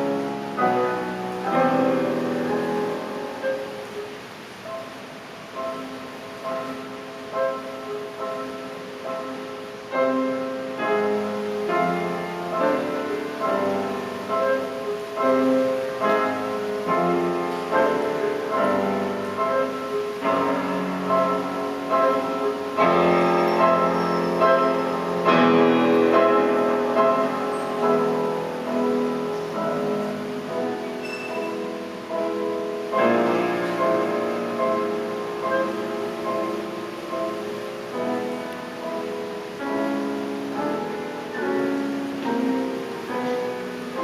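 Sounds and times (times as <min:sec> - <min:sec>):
orchestra playing classical music: 0:00.0 - 0:44.0
piano: 0:00.0 - 0:44.0.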